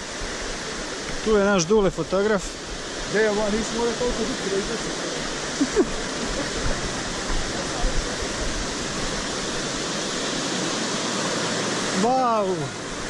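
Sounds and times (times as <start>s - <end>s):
spring water rushing: 0.0s - 13.0s.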